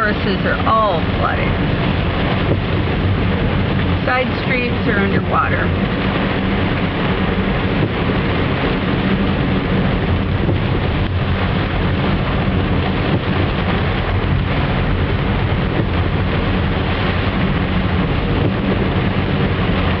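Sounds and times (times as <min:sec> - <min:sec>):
car engine and tyres humming: 0:00.0 - 0:20.0
heavy rain rushing: 0:00.0 - 0:20.0.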